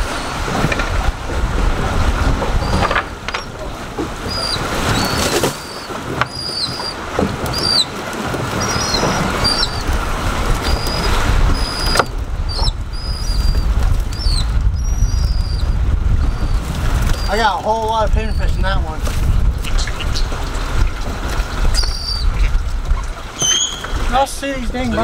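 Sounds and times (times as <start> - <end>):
water noise: 0.0 - 25.0
wind noise: 0.0 - 25.0.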